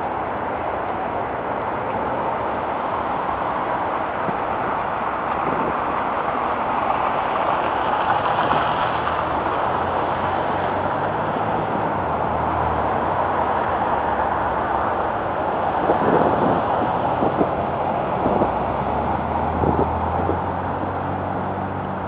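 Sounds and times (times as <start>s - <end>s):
passing road traffic: 0.0s - 22.0s
vehicle engine low drone: 0.0s - 22.0s.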